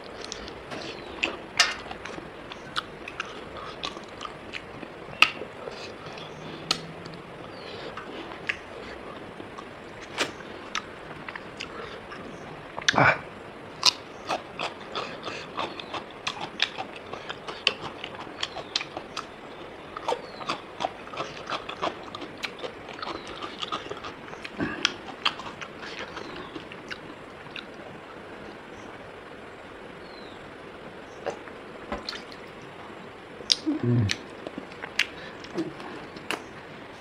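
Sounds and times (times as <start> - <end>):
person chewing food: 0.0 - 13.0, 13.8 - 27.9, 33.5 - 36.6.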